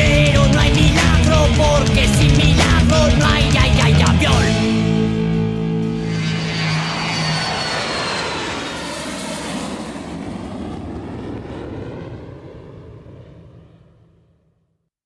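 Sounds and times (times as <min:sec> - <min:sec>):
airplane engine whine: 0:01.6 - 0:14.6.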